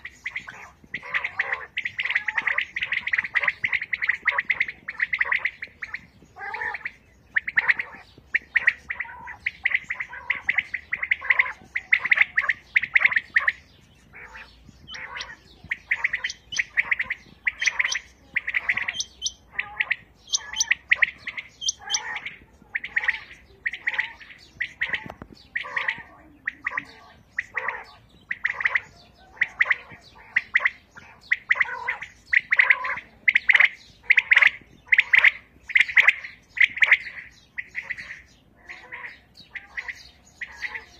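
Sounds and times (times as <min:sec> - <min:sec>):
quails calling: 0:00.0 - 0:40.9.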